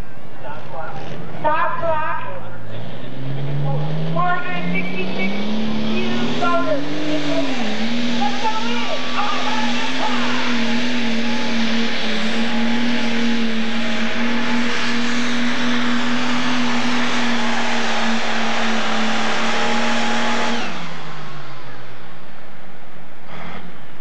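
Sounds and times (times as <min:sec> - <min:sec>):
diesel tractor engine droning: 0:00.0 - 0:24.0.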